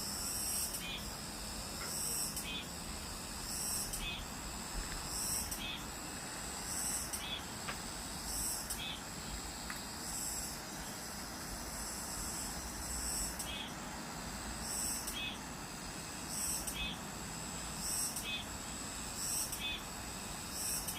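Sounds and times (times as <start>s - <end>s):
cicadas buzzing: 0.0s - 20.9s.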